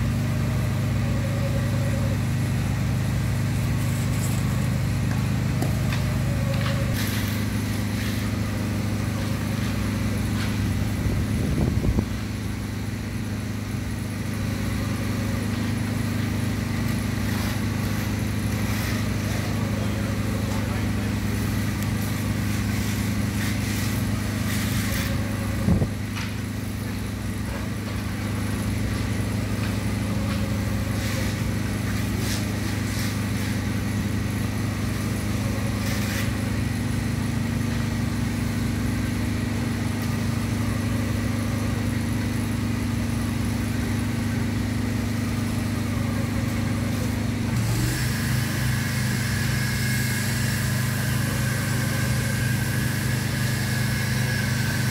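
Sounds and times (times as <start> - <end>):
screeding machine motor hum: 0.0 - 54.9.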